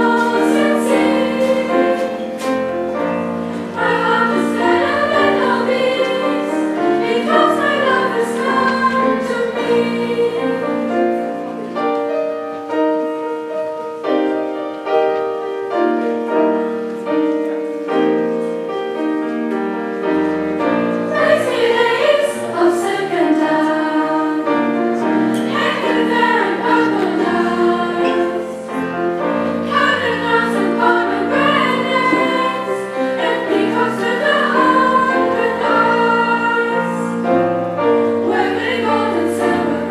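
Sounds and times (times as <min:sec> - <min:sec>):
choir singing in harmony: 0:00.0 - 0:12.2, 0:20.0 - 0:39.9.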